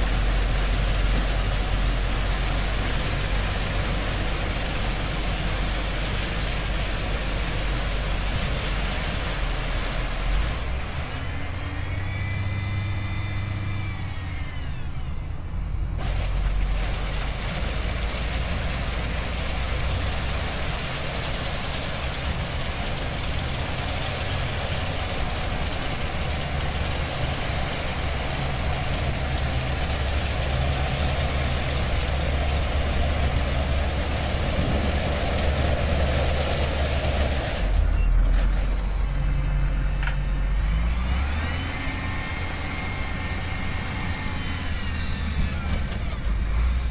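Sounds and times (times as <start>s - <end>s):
heavy vehicle engine running: 0.0s - 46.9s.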